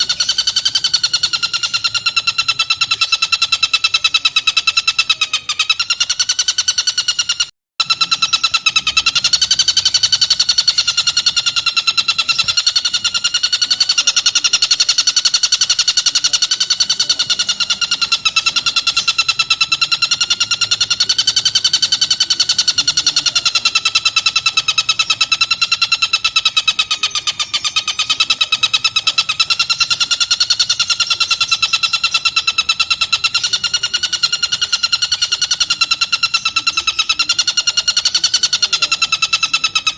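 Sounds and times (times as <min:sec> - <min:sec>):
kingfisher trilling: 0:00.0 - 0:39.9.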